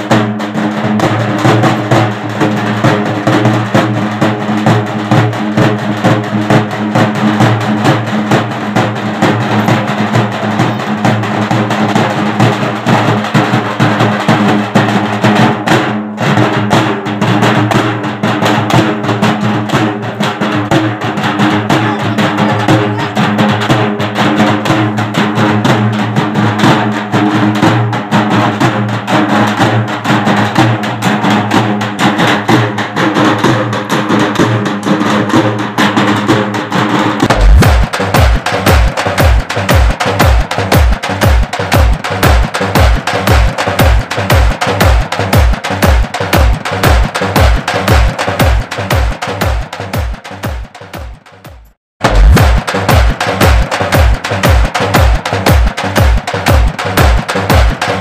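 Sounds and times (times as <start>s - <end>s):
frame drums beaten with sticks: 0.0s - 58.0s.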